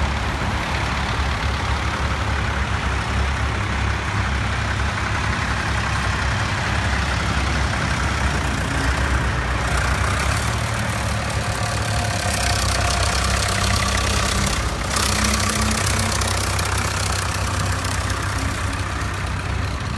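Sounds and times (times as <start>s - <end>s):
tractor engines driving past: 0.0s - 19.9s.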